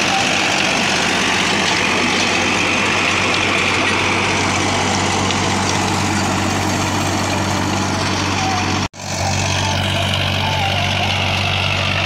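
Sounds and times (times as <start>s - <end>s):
rotavator churning soil: 0.0s - 12.0s
tractor diesel engine under load: 0.0s - 12.0s.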